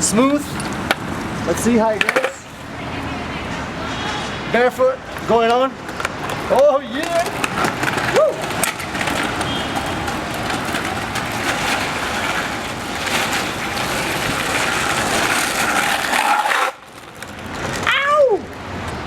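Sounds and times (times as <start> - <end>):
wheels rolling over pavement: 0.0 - 19.0.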